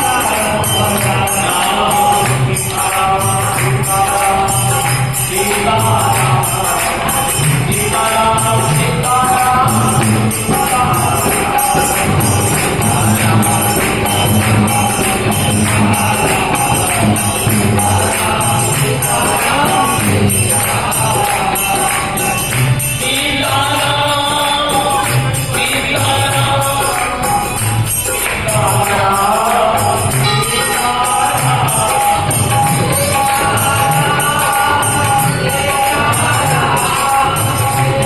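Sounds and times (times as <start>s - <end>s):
harmonium melody: 0.0s - 38.0s
jingling percussion: 0.0s - 38.0s
steady drum beat: 0.0s - 38.0s
voices singing: 0.0s - 38.0s.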